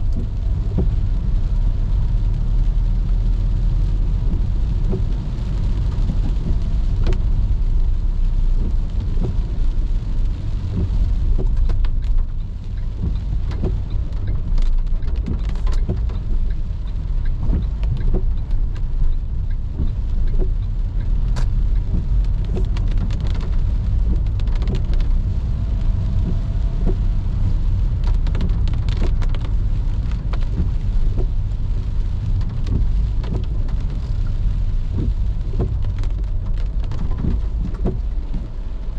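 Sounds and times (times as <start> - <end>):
car driving on wet road: 0.0 - 38.9
raindrops tapping on car: 0.0 - 38.9.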